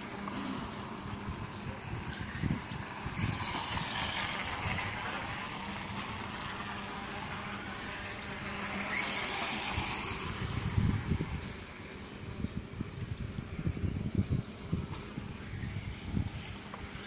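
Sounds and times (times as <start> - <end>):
low wind rumble: 0.0 - 17.0
model motorcycle engine whine: 0.0 - 17.0.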